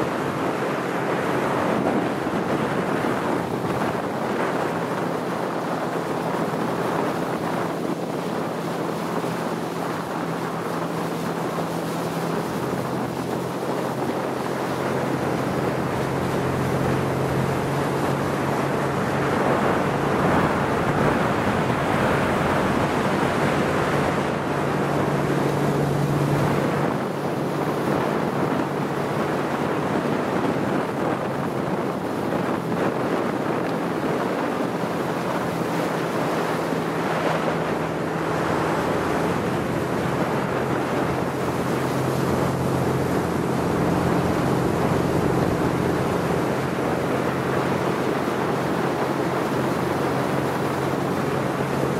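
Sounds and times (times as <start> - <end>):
boat engine low hum: 0.0 - 51.9
rushing water and wind: 0.0 - 51.9.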